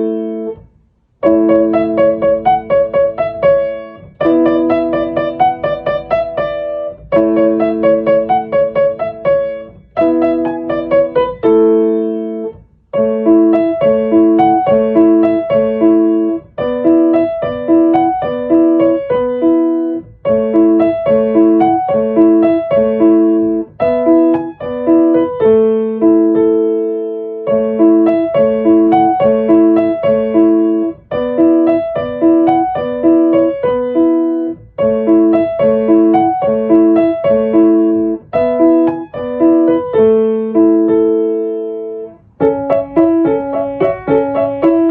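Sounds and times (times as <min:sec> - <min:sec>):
piano playing light melody: 0:00.0 - 0:44.9.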